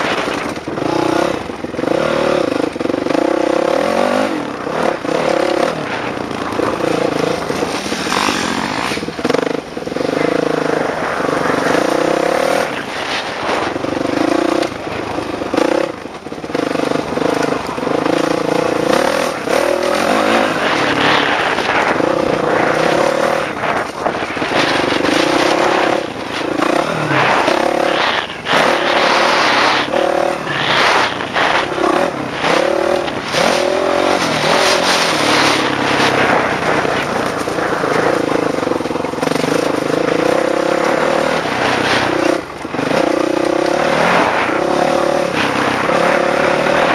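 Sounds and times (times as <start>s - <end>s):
wind rush over microphone: 0.0s - 2.6s, 3.7s - 16.0s, 17.4s - 46.9s
dirt bike engine revving: 0.0s - 46.9s.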